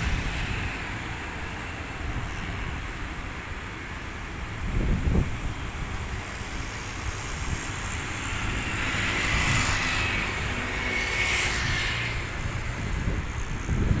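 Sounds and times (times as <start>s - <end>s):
distant jet engines whining: 0.0s - 14.0s
wind rumble on microphone: 0.0s - 14.0s.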